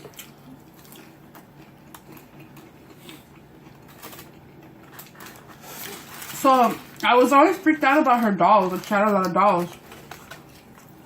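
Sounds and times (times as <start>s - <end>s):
low room hum: 0.0s - 11.0s
soft chewing: 0.0s - 11.0s.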